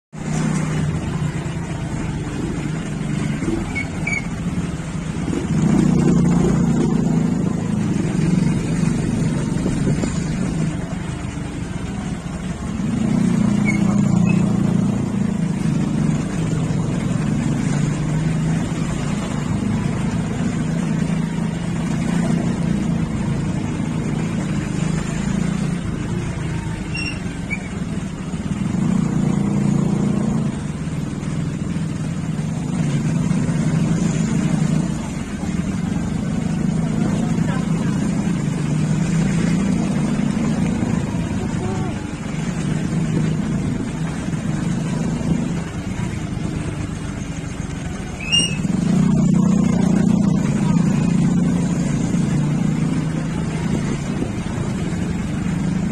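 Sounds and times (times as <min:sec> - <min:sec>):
motorcycle engine running: 0:00.2 - 0:55.9.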